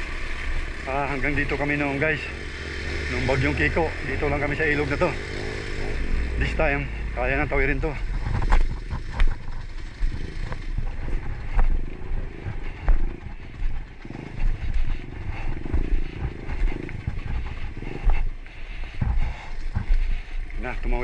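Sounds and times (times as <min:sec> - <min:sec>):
motorcycle engine low throttle: 0:00.0 - 0:21.0.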